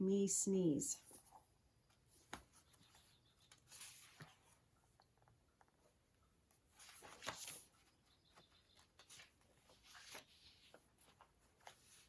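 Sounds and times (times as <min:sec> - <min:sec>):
paper pages rustling: 0:01.0 - 0:12.0.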